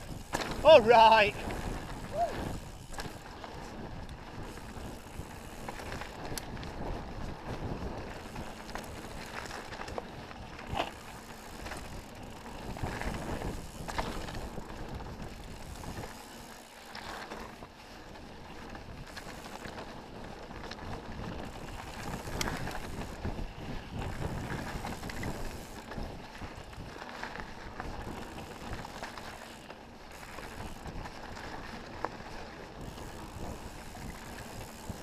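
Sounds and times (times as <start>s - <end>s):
bike rattling and knocking: 0.0s - 35.0s
bike tyres rolling over dirt and stones: 0.0s - 35.0s.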